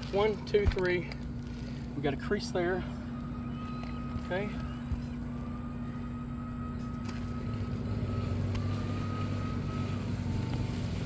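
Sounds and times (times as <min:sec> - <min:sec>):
mechanical hum and low rumble: 0:00.0 - 0:11.0
thin steady whine: 0:00.0 - 0:11.0.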